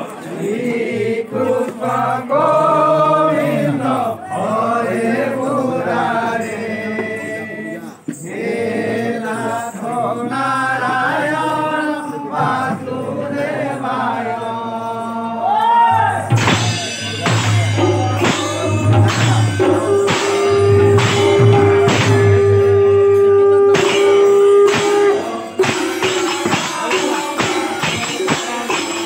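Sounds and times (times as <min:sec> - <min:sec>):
group chanting devotional song: 0:00.0 - 0:29.0.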